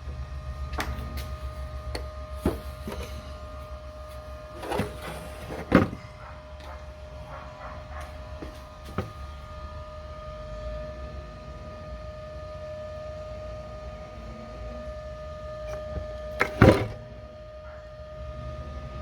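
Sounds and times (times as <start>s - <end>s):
motor whining: 0.6s - 19.0s.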